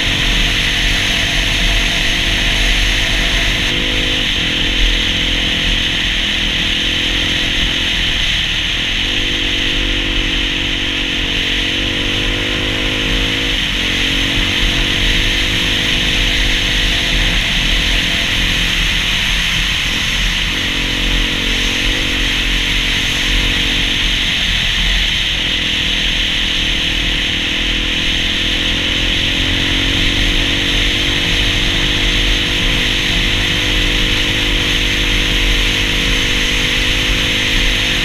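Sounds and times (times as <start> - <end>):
dirt bike engine running: 0.0 - 38.0
wind and road noise: 0.0 - 38.0.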